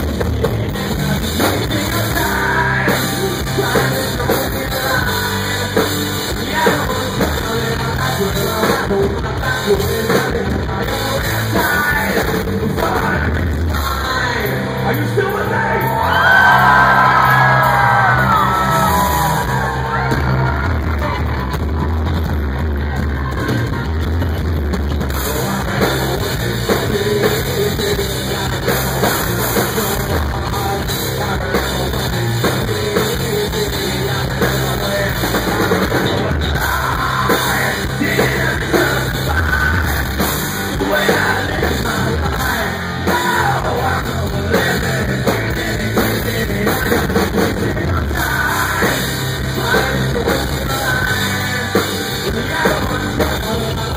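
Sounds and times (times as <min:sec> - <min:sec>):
bass guitar: 0:00.0 - 0:53.9
distorted electric guitar: 0:00.0 - 0:53.9
drum kit: 0:00.0 - 0:53.9
person yelling singing: 0:00.4 - 0:21.6, 0:25.2 - 0:53.9.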